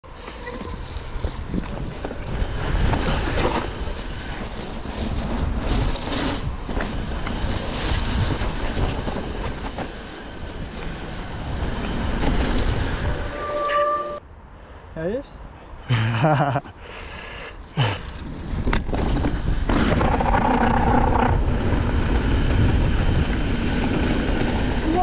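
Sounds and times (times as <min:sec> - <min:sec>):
bike rolling on dirt trail: 0:00.0 - 0:13.6, 0:16.3 - 0:25.0
wind buffeting microphone: 0:00.6 - 0:13.4, 0:17.7 - 0:25.0.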